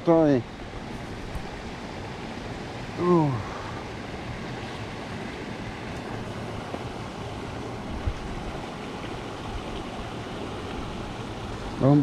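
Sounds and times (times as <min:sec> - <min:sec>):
water rushing through weir: 0:00.0 - 0:12.0.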